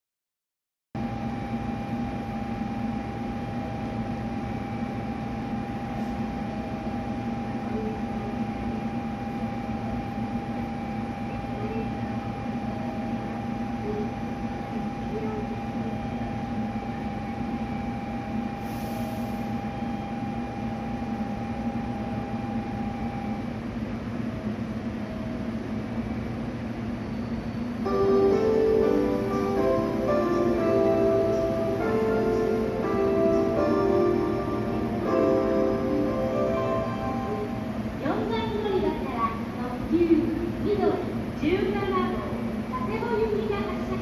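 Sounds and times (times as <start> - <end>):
train engine humming: 1.0 - 44.0.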